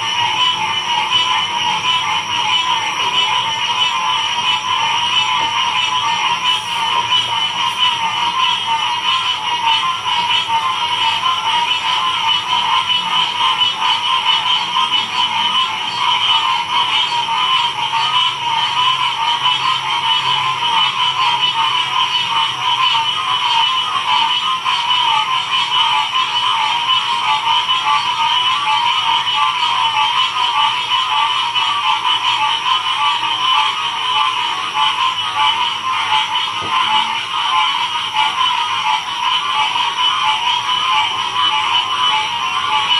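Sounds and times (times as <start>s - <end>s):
frog chorus: 0.0s - 42.9s.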